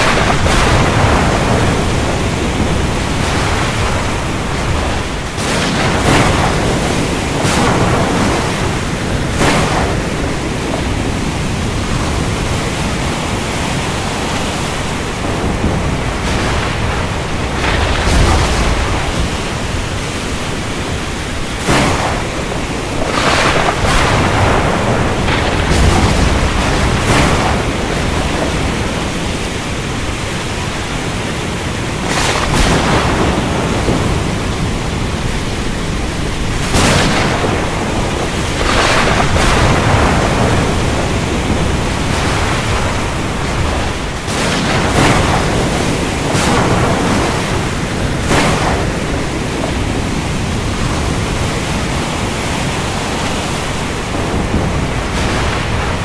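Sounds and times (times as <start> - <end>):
rain hissing: 0.0 - 56.0
sea: 0.0 - 56.0
thunder cracks: 0.0 - 56.0.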